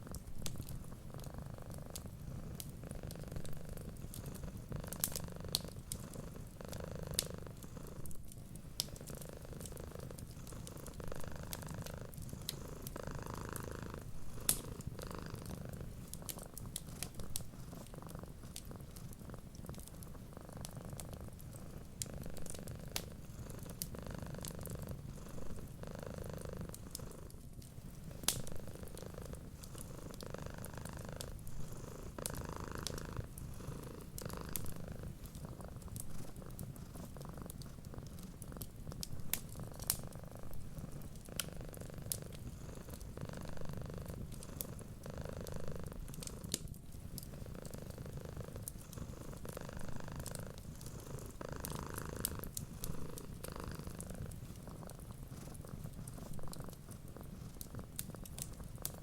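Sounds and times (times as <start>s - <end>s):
wood fire crackling: 0.0s - 1.3s, 1.9s - 59.0s
cat purring: 0.0s - 59.0s.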